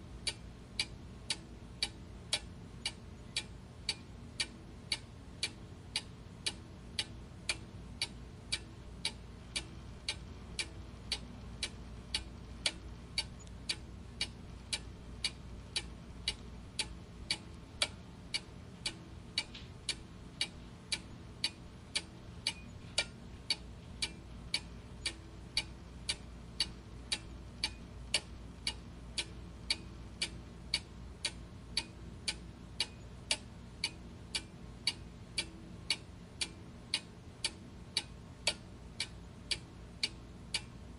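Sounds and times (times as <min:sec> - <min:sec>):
faint low hum: 0:00.0 - 0:40.9
clock ticking: 0:00.1 - 0:40.8.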